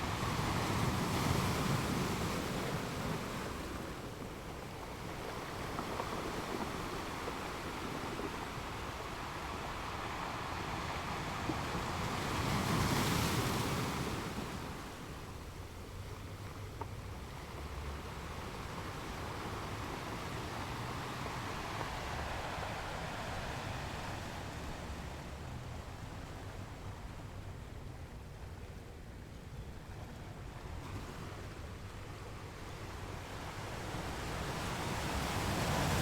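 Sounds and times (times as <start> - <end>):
ocean waves washing ashore: 0.0 - 36.0.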